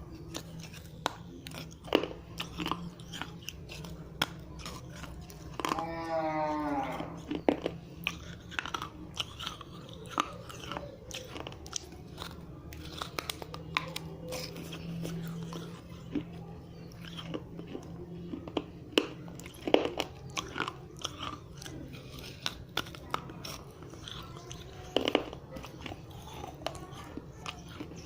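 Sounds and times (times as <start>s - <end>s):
clay cup crunching between teeth: 0.0s - 28.0s.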